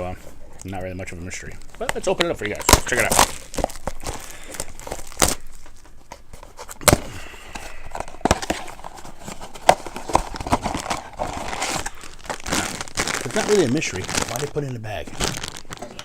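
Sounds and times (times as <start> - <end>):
crinkly packaging rustling: 0.0 - 16.0.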